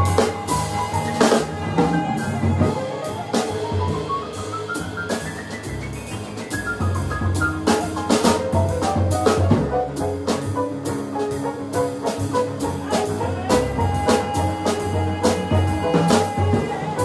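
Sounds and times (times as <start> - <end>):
drum kit and cymbals: 0.0 - 17.0
piano: 0.0 - 17.0.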